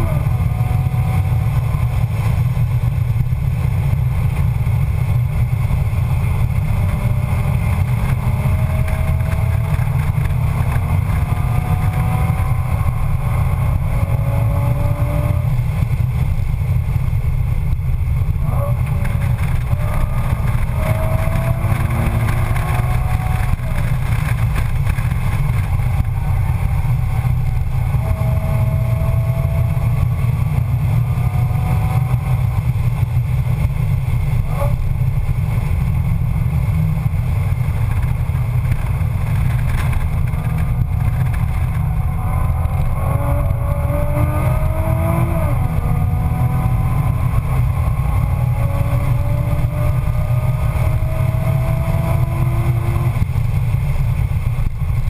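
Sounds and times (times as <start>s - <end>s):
car engine droning under acceleration: 0.0s - 55.0s.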